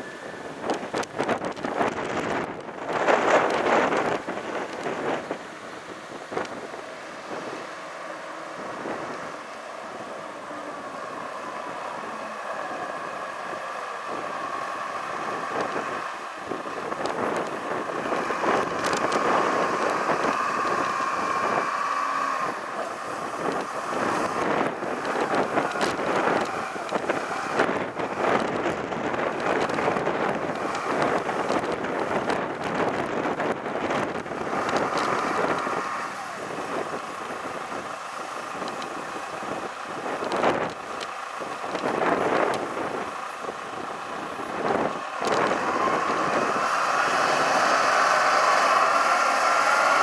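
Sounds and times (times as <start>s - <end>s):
steady whine: 0.0s - 50.0s
wheel loader diesel engine: 0.0s - 50.0s.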